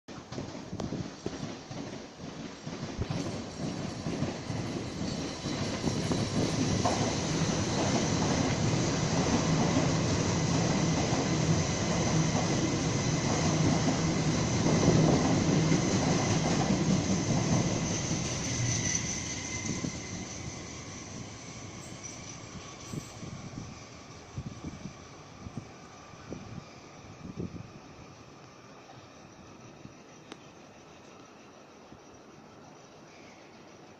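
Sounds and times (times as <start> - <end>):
train wheels rumbling on rails: 0.1 - 30.0
faint high whine: 3.4 - 33.9.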